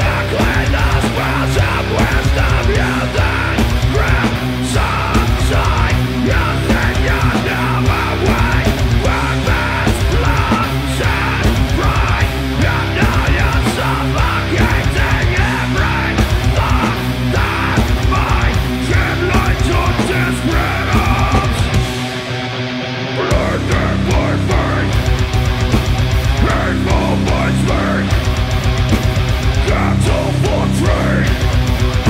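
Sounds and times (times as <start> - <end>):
drums with cymbal hits: 0.0 - 22.5, 23.3 - 32.0
bass guitar: 0.0 - 32.0
distorted electric guitars: 0.0 - 32.0
harsh screamed vocal: 0.0 - 32.0.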